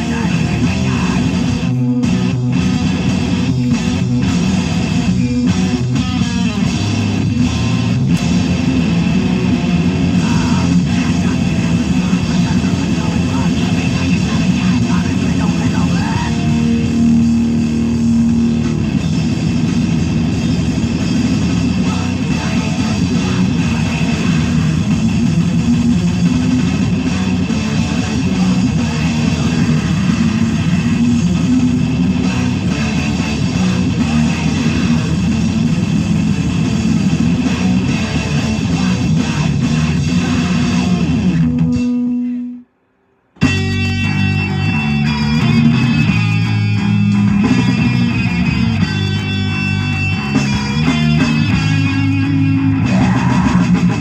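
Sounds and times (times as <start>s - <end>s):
rock music with guitar and bass: 0.0s - 42.6s, 43.4s - 54.0s.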